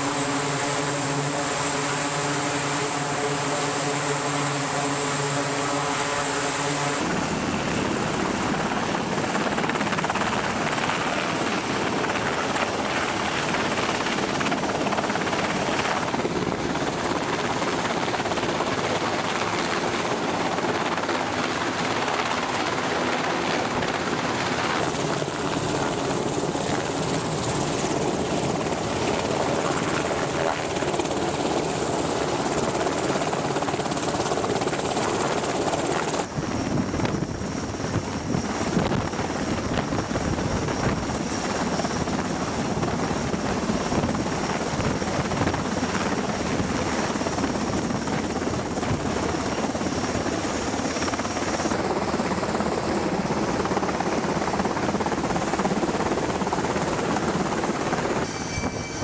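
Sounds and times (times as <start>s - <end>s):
helicopter rotor and turbine: 0.0s - 59.0s.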